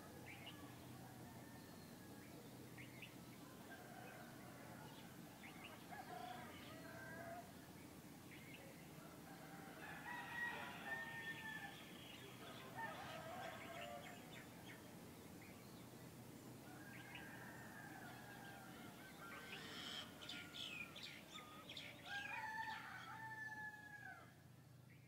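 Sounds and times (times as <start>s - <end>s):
faint birds chirping and warbling: 0.0s - 25.0s.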